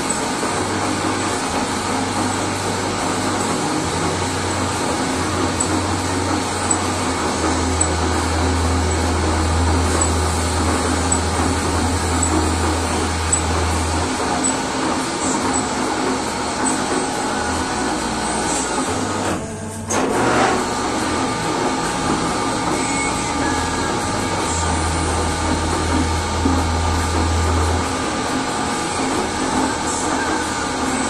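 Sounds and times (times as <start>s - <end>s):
low hum: 0.0s - 20.0s, 20.6s - 30.9s
metal lathe running: 0.0s - 31.0s.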